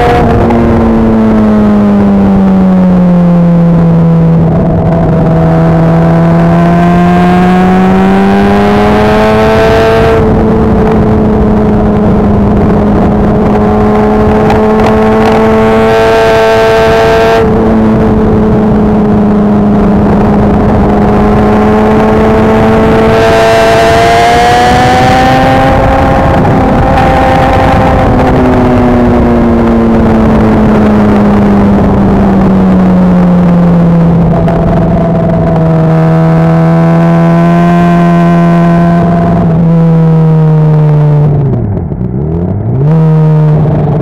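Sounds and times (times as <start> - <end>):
motorcycle engine: 0.0 - 44.0
wind rush: 0.0 - 44.0.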